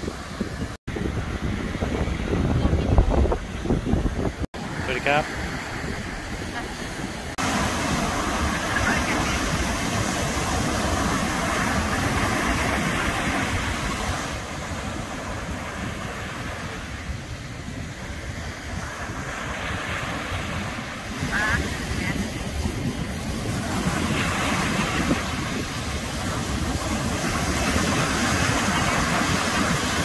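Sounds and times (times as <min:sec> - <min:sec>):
ocean surf breaking on beach: 0:00.0 - 0:30.0
wind rumbling on microphone: 0:00.0 - 0:30.0.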